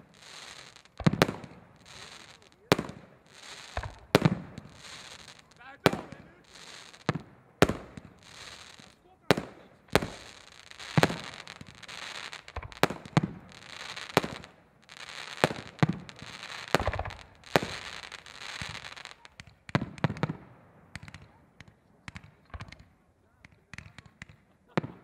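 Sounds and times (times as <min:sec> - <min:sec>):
fireworks hissing crackle: 0:00.0 - 0:20.3
fireworks bangs: 0:00.0 - 0:25.0.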